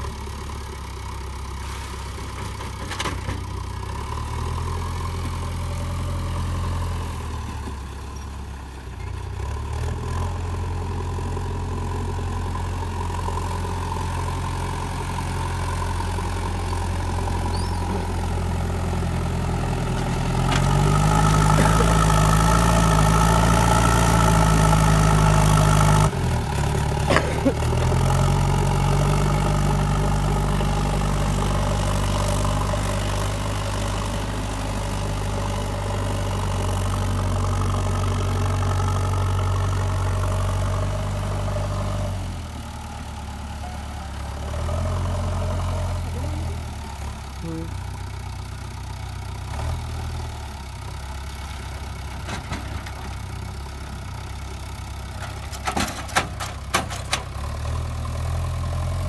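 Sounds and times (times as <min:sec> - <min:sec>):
diesel engine revving: 0:09.4 - 0:59.0.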